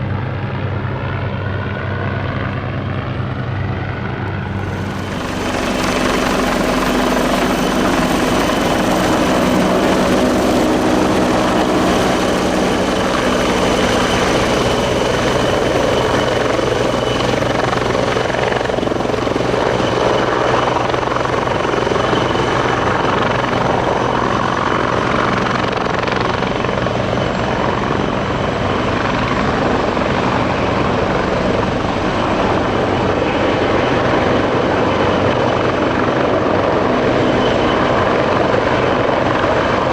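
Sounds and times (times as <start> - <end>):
helicopter rotor beat: 0.0 - 39.9
helicopter turbine whine: 0.0 - 39.9.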